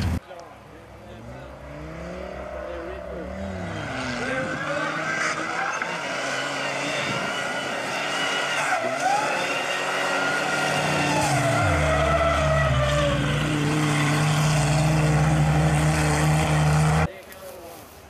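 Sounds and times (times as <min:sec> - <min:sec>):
racing engines revving: 0:00.0 - 0:17.1.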